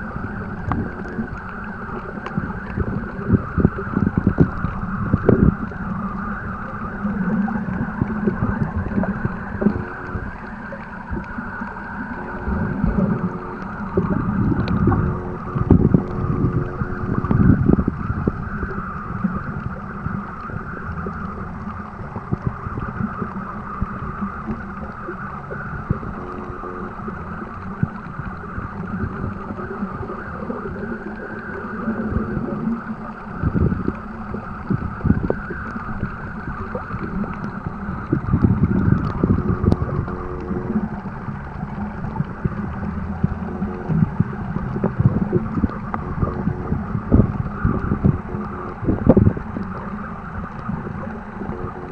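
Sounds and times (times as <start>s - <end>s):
underwater rumble and hiss: 0.0s - 51.9s.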